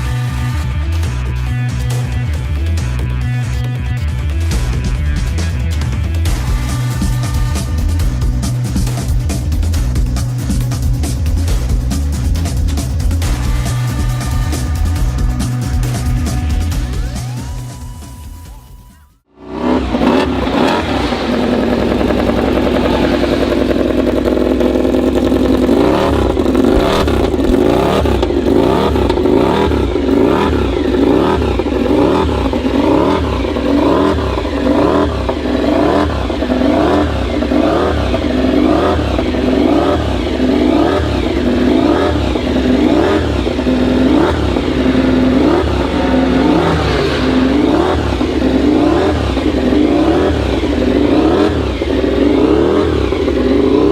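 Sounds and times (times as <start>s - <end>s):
racing motorcycles at high revs: 6.2s - 17.5s, 19.4s - 53.9s.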